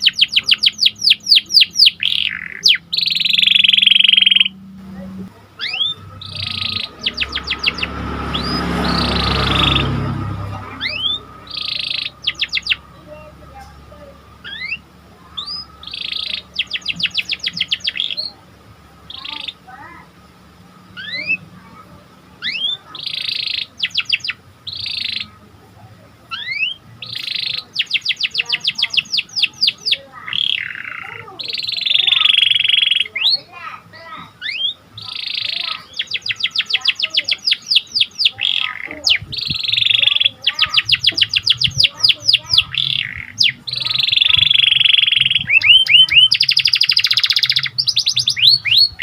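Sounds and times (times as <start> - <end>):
canary singing: 0.0 - 49.0.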